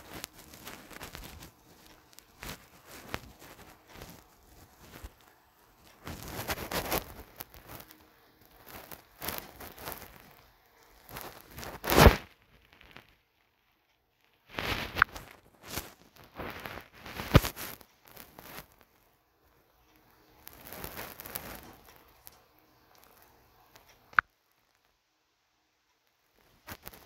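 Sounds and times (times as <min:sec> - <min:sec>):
rustling noise: 0:00.0 - 0:24.9, 0:26.1 - 0:27.0.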